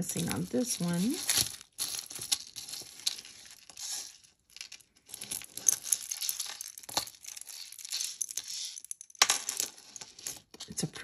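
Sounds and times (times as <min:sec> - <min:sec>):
crinkly packaging handled: 0:00.1 - 0:10.7.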